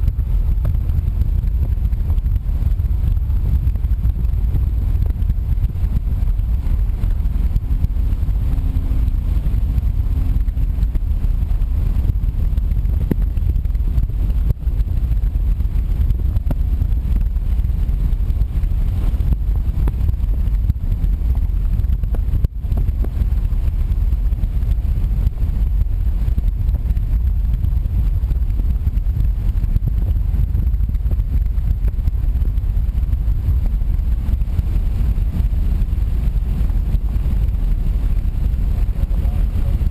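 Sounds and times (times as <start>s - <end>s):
road and engine rumble: 0.0s - 39.9s
wind: 0.0s - 39.9s.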